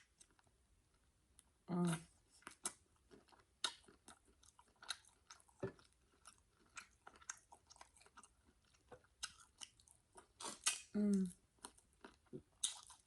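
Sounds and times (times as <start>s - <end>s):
wet chewing and mouth clicks: 1.4s - 13.0s.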